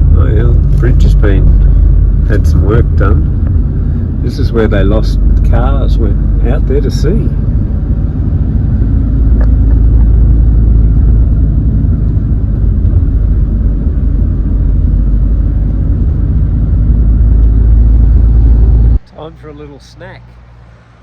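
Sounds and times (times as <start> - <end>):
car road and wind rumble: 0.0 - 21.0.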